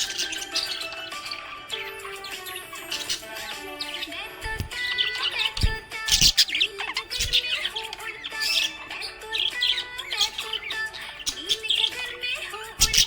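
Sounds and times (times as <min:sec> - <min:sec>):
budgerigars chirping and warbling: 0:00.0 - 0:13.0
faint background music: 0:00.0 - 0:13.0.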